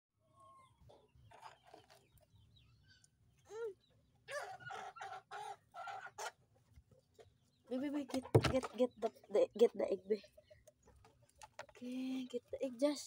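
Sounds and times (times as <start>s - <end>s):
hen clucking: 0.4s - 11.5s.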